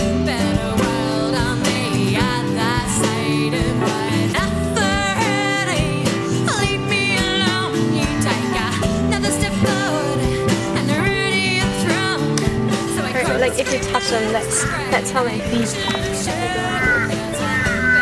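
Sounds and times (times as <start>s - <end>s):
song with singing voice: 0.0s - 18.0s.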